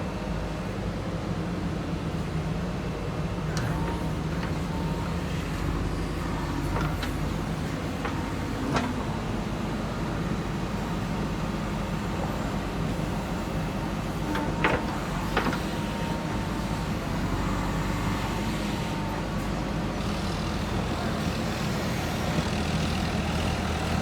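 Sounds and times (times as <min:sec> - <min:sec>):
diesel engine running: 0:03.3 - 0:24.0.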